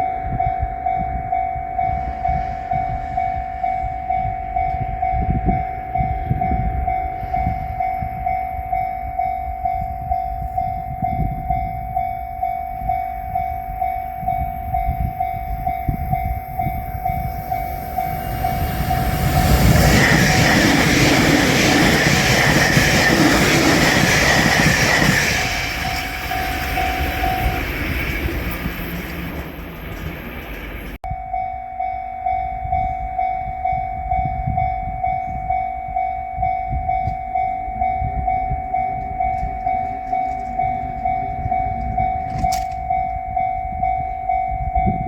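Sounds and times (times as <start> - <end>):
electric train passing: 0.0 - 45.0
level crossing warning bell: 0.0 - 45.0.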